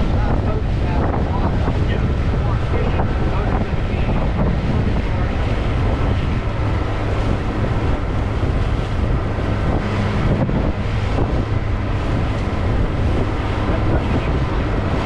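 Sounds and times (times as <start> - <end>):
boat motor running: 0.0 - 15.0
water along boat hull: 0.0 - 15.0
wind buffeting microphone: 0.0 - 15.0.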